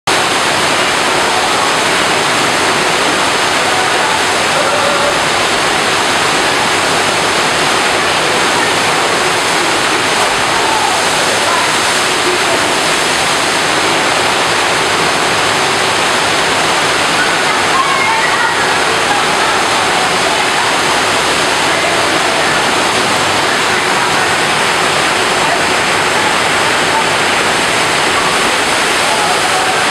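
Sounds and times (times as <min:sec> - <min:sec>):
water rushing over wave ramp: 0:00.1 - 0:29.9.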